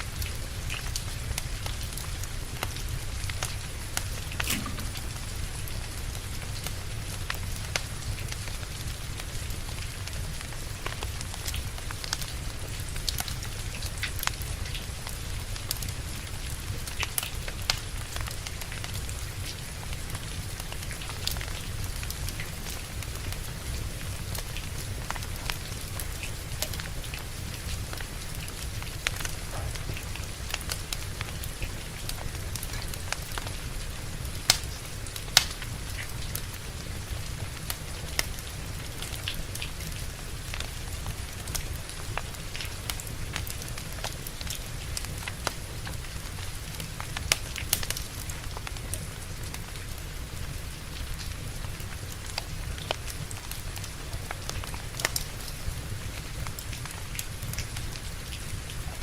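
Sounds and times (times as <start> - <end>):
steady rain: 0.0 - 59.0
wood fire crackling and popping: 0.1 - 59.0.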